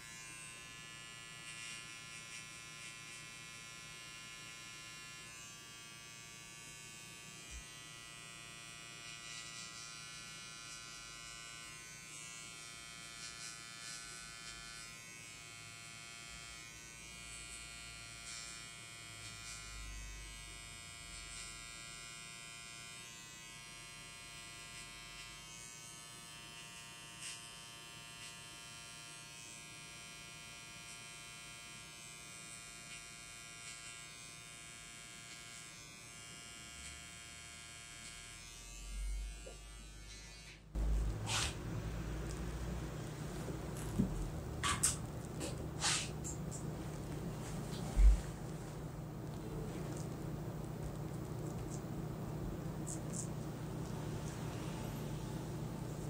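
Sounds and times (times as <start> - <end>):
electric hair clipper buzzing: 0.0 - 49.3.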